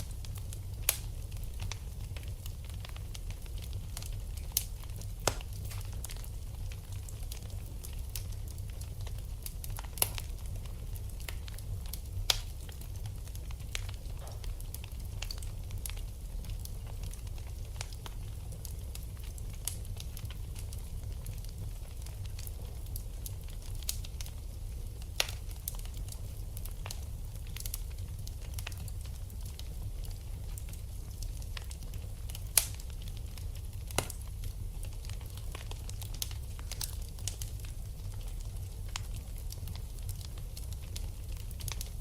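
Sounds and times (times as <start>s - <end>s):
fire crackling: 0.0s - 42.0s
low fire rumble: 0.0s - 42.0s.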